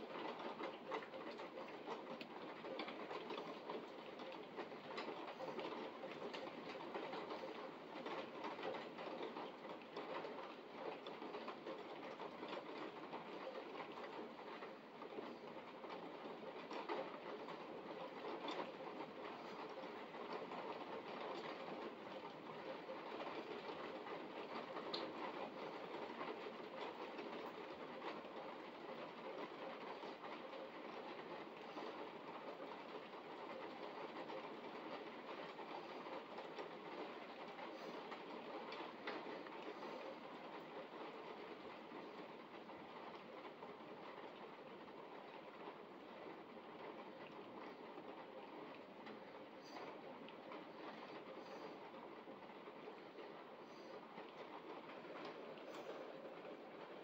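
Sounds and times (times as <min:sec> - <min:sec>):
rain hitting window and ground: 0:00.0 - 0:57.0.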